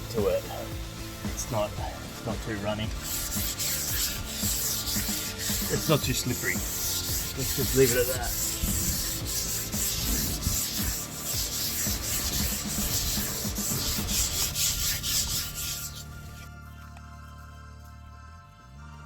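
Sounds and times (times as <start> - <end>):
soft background music: 0.0 - 19.0
sandpaper rubbing by hand: 0.2 - 16.5.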